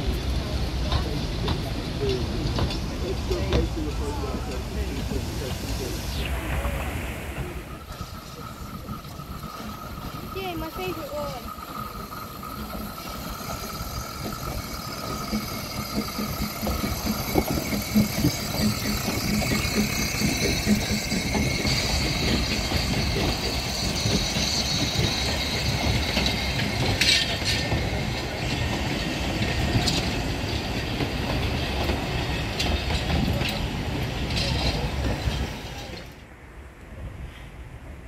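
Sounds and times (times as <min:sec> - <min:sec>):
steam locomotive exhaust beats: 0:00.0 - 0:36.2
train wheel squeal: 0:00.0 - 0:36.3
train wheels clattering: 0:00.0 - 0:36.3.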